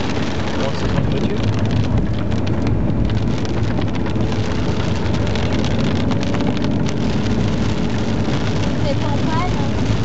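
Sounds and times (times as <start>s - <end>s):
engine and tyres rumbling: 0.0s - 10.0s
rain striking a car: 0.0s - 10.0s.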